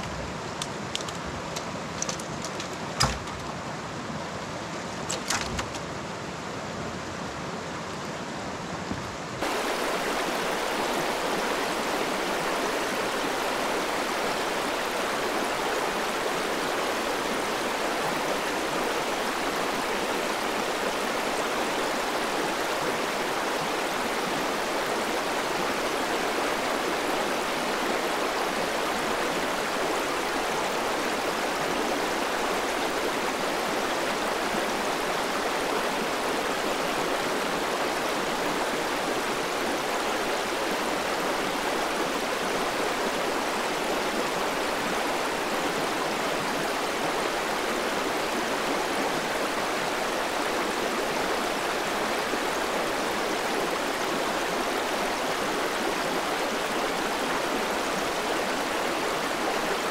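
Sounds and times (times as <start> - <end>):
stream running over stones: 0.0 - 6.5, 7.4 - 59.9.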